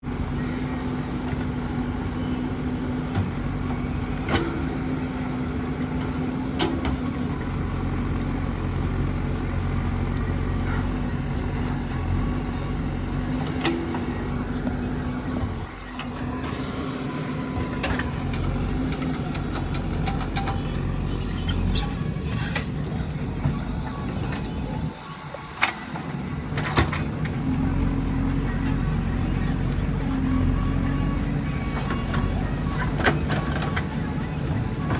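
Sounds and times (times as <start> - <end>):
backhoe diesel engine running: 0.0 - 34.9.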